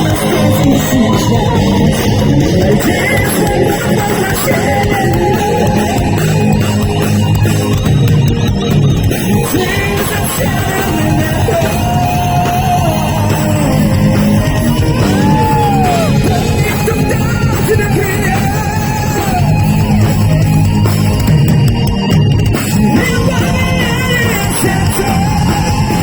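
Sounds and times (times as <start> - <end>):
live heavy metal band: 0.0 - 26.0
melodic guitar lead line: 0.0 - 26.0.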